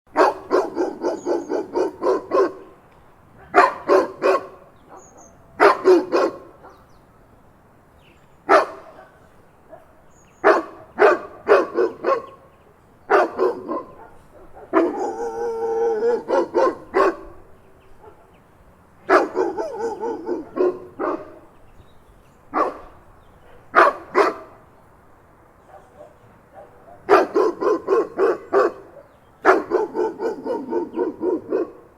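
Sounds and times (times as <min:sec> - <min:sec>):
big dog barking: 0:00.1 - 0:02.8, 0:03.4 - 0:06.9, 0:08.5 - 0:18.4, 0:19.0 - 0:21.6, 0:22.5 - 0:24.7, 0:25.6 - 0:31.9.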